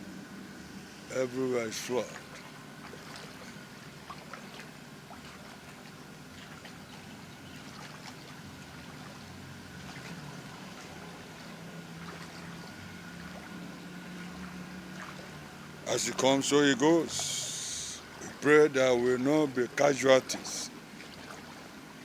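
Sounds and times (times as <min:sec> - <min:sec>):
faint low hum: 0:00.0 - 0:22.0
floodwater trickling and flowing: 0:00.0 - 0:22.0
small water splashes: 0:01.2 - 0:22.0.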